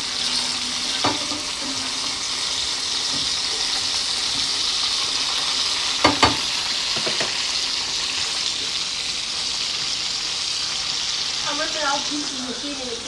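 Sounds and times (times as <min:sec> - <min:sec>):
patties sizzling in a frying pan: 0:00.0 - 0:13.0.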